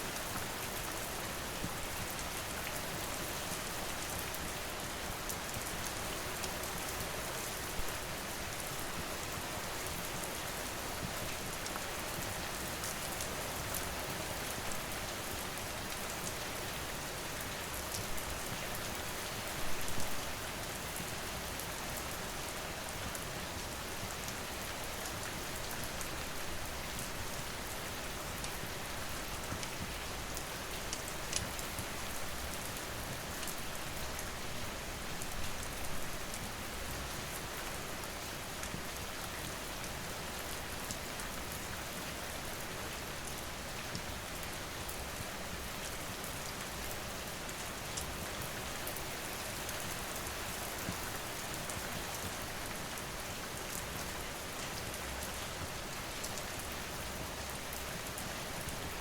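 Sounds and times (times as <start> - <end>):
rain falling on surfaces: 0.0 - 59.0.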